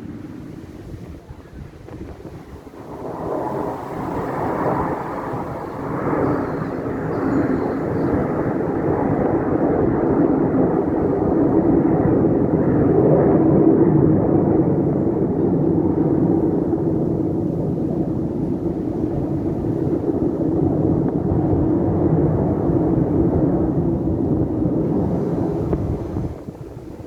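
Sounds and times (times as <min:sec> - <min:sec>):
airplane engine flying past: 0:00.0 - 0:27.0.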